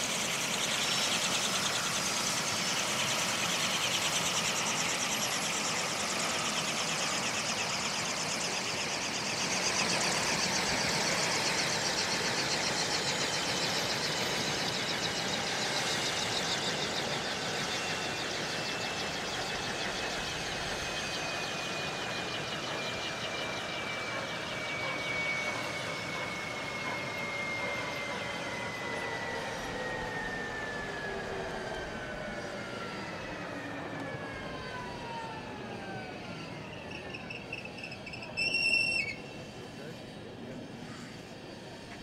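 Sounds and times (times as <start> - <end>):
helicopter engines whining down: 0.0 - 42.0
helicopter rotor slowing: 0.0 - 42.0.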